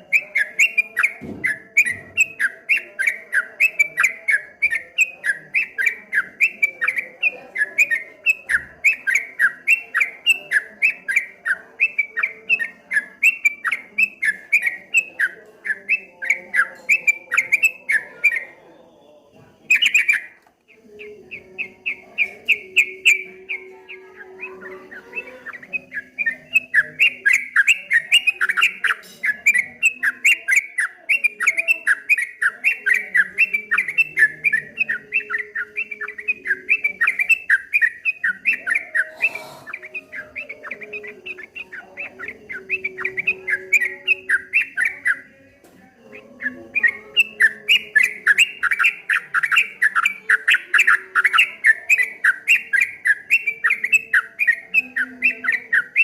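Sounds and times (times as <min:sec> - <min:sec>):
bird singing rolling chatter: 0:00.0 - 0:56.0.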